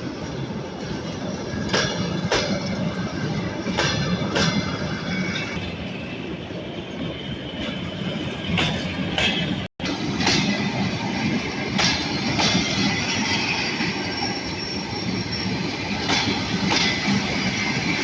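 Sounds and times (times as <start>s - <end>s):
train wheels rumbling on rails: 0.0s - 18.0s
wheels clacking over rail joints: 1.2s - 5.8s, 7.6s - 18.0s.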